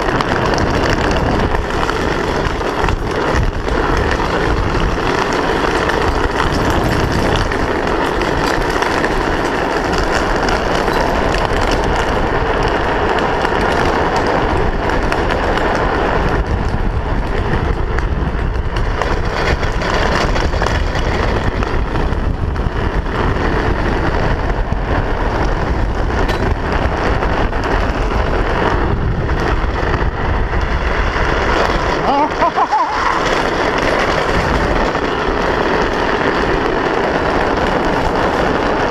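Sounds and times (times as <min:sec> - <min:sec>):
wheels rolling on asphalt: 0:00.0 - 0:38.9
wind rushing over helmet: 0:00.0 - 0:38.9.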